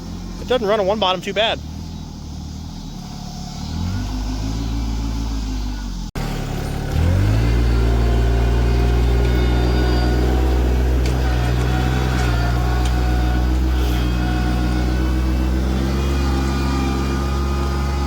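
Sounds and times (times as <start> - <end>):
tractor engine revving: 0.0 - 18.0.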